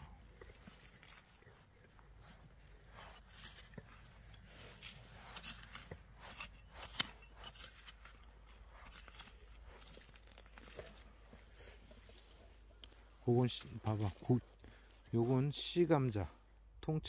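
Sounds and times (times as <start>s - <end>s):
hand tool scraping stony soil: 0.0s - 15.6s.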